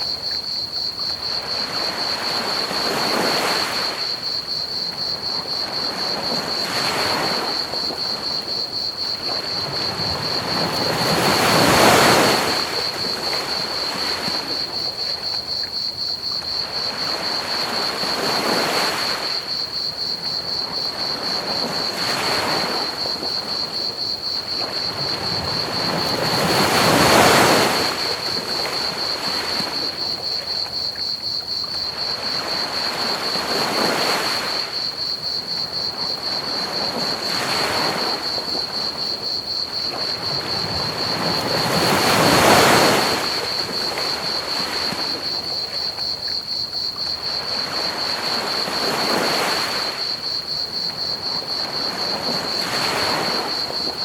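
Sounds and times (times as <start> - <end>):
crickets chirping: 0.0 - 54.0
ocean waves washing onto beach: 0.0 - 54.0.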